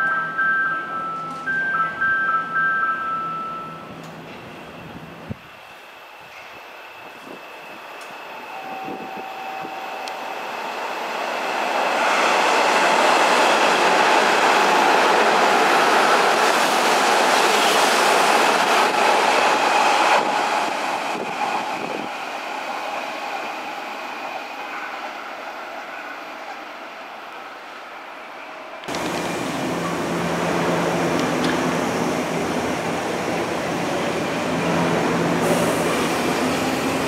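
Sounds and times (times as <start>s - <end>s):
electric train running past: 0.3s - 37.0s.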